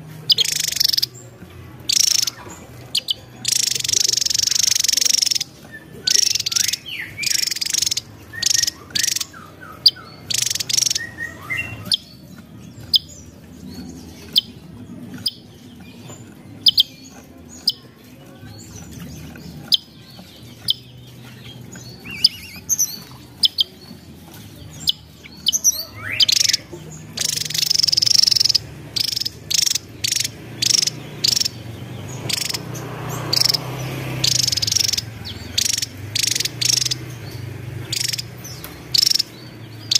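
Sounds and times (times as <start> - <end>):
bird singing high buzzy trills: 0.0 - 39.9.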